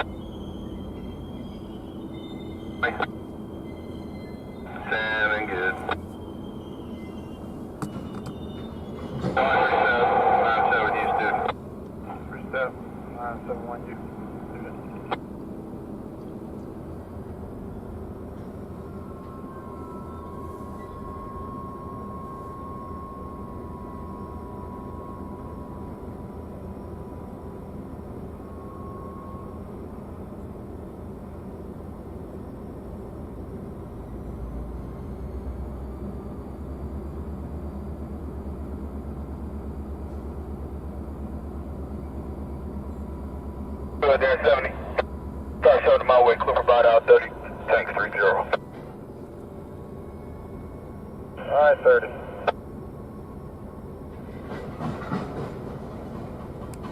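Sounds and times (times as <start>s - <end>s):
freight train rumbling: 0.0s - 56.9s
large engine idling: 0.0s - 56.9s.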